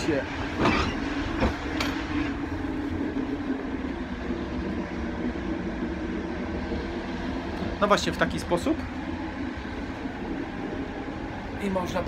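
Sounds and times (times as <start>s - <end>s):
faint steady hum: 0.0s - 12.0s
train running gear rumble: 0.0s - 12.0s.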